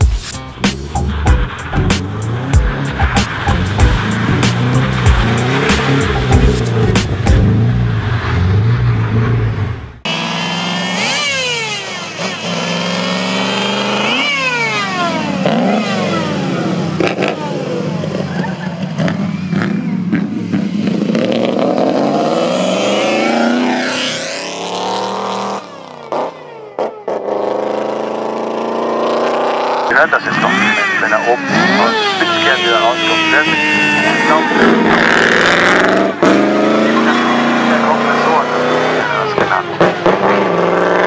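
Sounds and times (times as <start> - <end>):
racing car accelerating through gears: 1.5 - 41.0.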